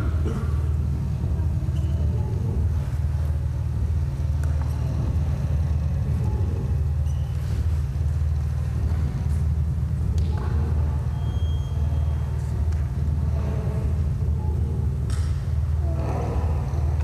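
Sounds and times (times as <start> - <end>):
deep rumbling drone: 0.0 - 17.0.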